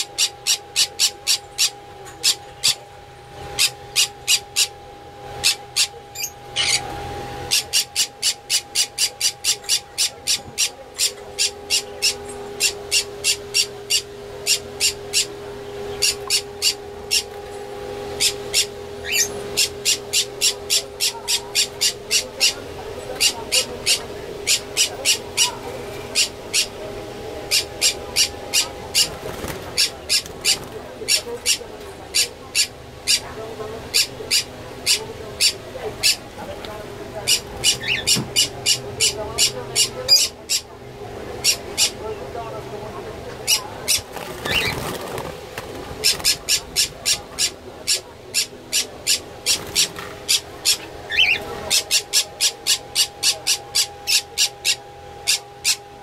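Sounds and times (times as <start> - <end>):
pet birds chirping: 0.0 - 26.8, 27.4 - 36.3, 37.2 - 40.7, 41.4 - 42.0, 43.3 - 55.9.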